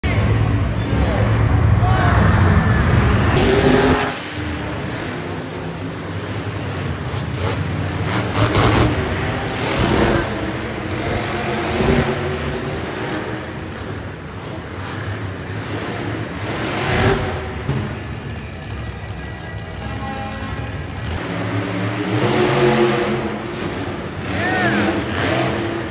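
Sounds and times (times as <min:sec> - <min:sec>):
monster truck engines revving: 0:00.0 - 0:25.9.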